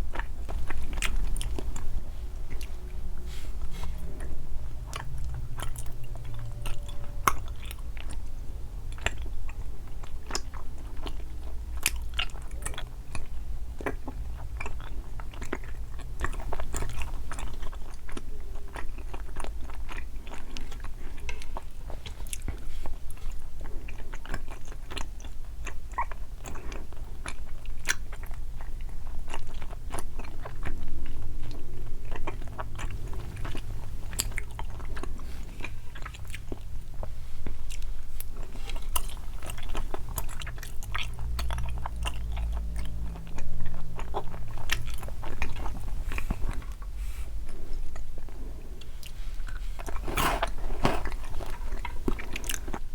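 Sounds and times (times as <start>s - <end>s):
chewing sweets: 0.0s - 52.9s.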